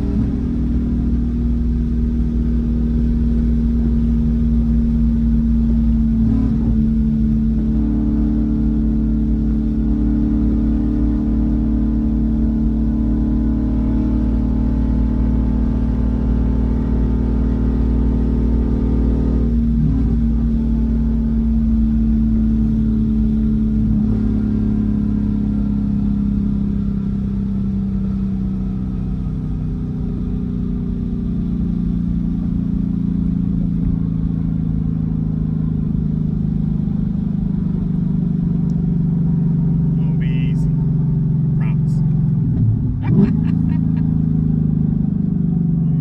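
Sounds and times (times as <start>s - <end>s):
car engine drone: 0.0s - 46.0s
road rumble: 0.0s - 46.0s.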